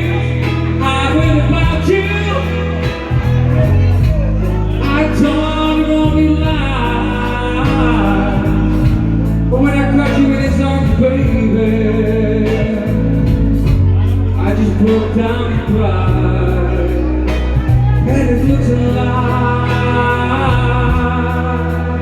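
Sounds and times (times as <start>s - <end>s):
song with band accompaniment: 0.0s - 22.0s
steady bass: 0.0s - 22.0s.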